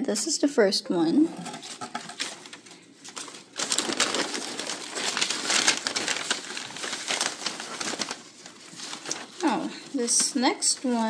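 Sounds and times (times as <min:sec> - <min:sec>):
paper rustling and crinkling: 0:01.5 - 0:11.0.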